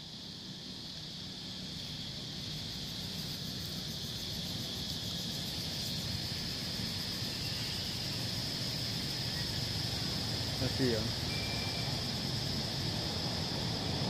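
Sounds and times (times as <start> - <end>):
insects droning in trees: 0.0 - 14.0.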